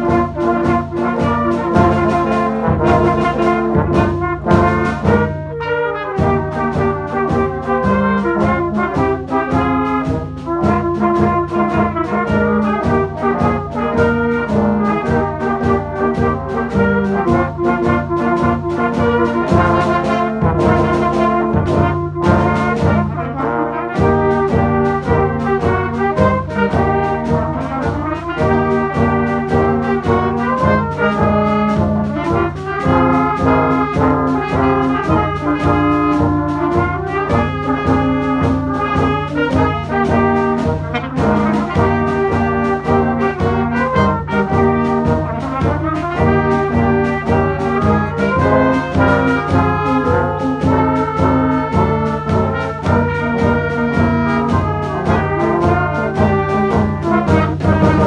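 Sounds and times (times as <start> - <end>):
bass drum beat: 0.0 - 58.0
brass band playing a march: 0.0 - 58.0.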